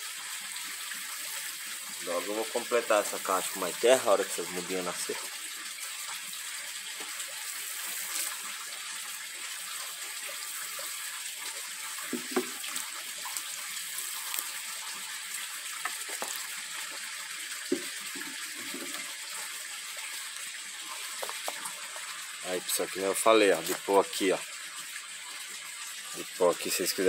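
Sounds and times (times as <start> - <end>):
watering can spraying water: 0.0 - 5.3, 6.8 - 25.0.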